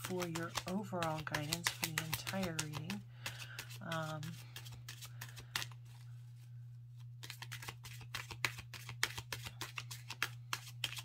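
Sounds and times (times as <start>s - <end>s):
cards being shuffled: 0.0s - 6.1s, 7.0s - 11.0s
low electrical hum: 0.0s - 11.0s.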